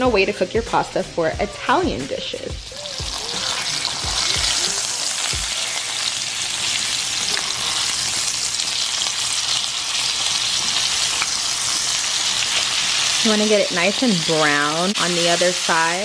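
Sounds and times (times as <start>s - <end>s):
chicken sizzling in a skillet: 2.5s - 16.0s.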